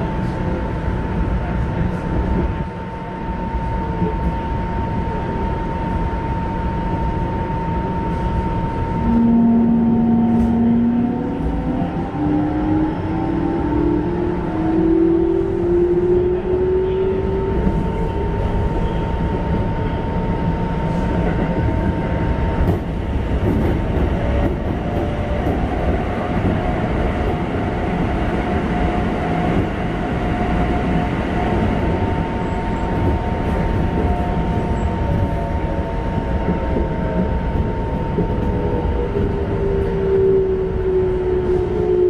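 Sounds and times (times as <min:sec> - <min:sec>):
train wheels on rails: 0:07.8 - 0:42.0.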